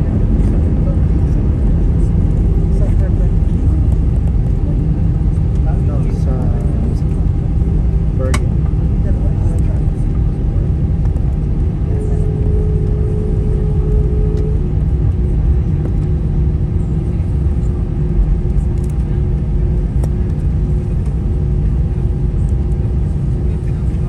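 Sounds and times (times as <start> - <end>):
aircraft engines and wheels rumbling: 0.0 - 24.0
higher hum: 0.0 - 24.0
steady hum: 0.0 - 24.0.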